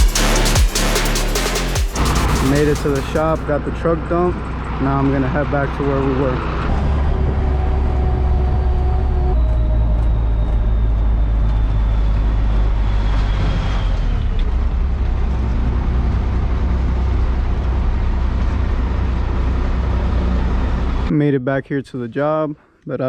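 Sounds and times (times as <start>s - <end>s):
truck engine and road rumble: 1.4s - 22.3s.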